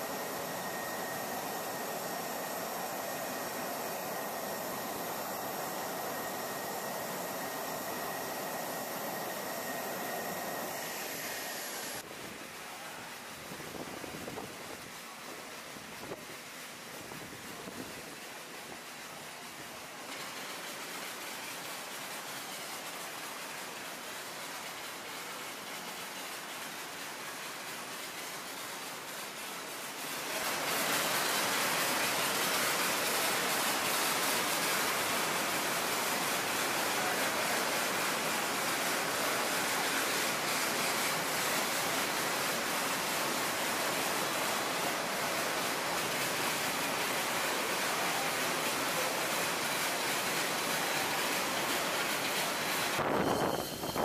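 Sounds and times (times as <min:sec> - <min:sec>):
hiss of water spraying: 0:00.0 - 0:54.0.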